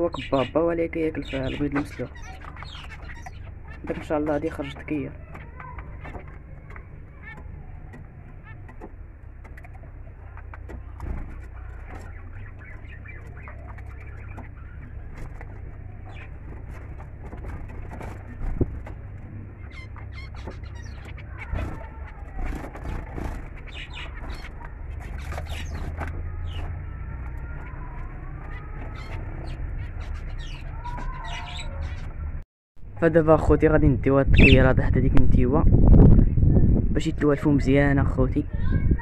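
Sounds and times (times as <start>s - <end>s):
finches chirping: 0.0s - 32.4s, 34.3s - 34.7s
steady low hum: 0.0s - 39.0s.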